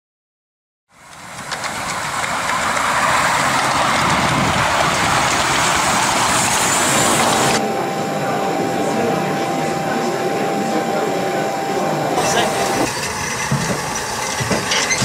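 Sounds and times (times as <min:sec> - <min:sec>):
locomotive wheels rumbling: 0:00.9 - 0:15.0
steam hissing: 0:01.0 - 0:15.0.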